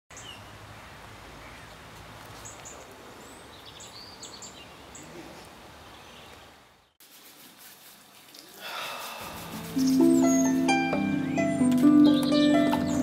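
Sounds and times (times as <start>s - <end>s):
small birds chirping: 0.1s - 7.0s, 8.3s - 13.0s.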